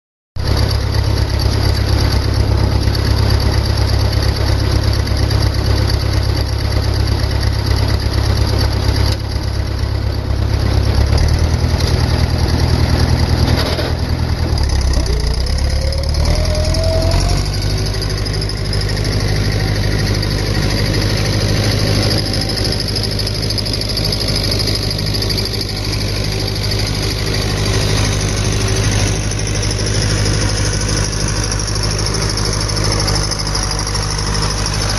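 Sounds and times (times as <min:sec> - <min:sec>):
tractor engine running: 0:00.4 - 0:34.9.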